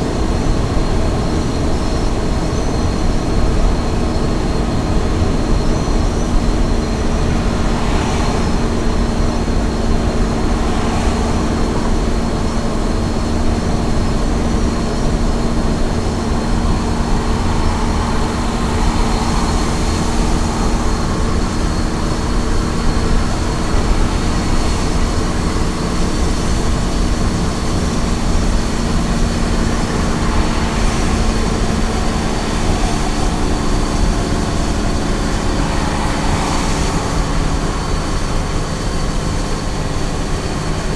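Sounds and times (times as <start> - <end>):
road and tyre noise: 0.0 - 40.9
truck engine cruising: 0.0 - 40.9
thin high whine: 4.9 - 40.3.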